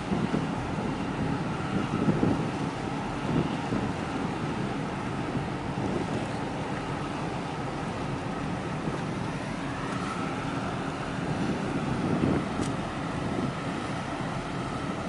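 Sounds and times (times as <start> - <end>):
steady low rumble: 0.0 - 15.0
wash of harbour water: 0.0 - 15.0
wind buffeting the microphone: 0.0 - 15.0.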